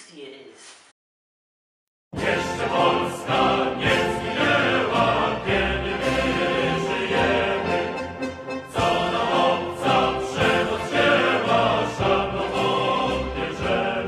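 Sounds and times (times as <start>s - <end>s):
background music with choral singing: 2.2s - 14.0s.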